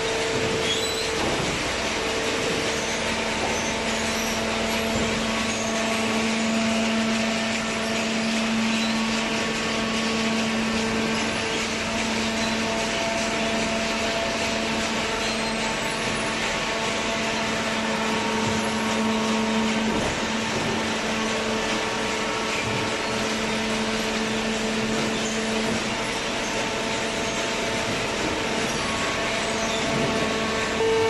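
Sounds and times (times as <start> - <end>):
hydraulic baler humming: 0.0 - 31.0.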